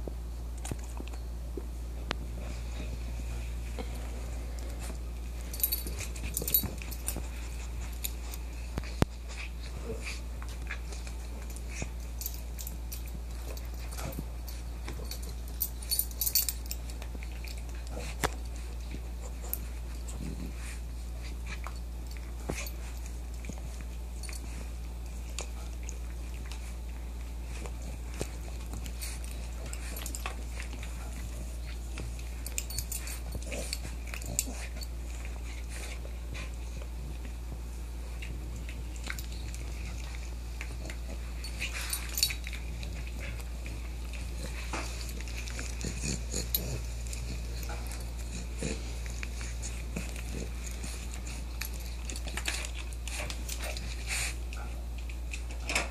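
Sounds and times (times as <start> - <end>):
steady low hum: 0.0 - 55.9
dog chewing a plush toy: 3.6 - 55.6.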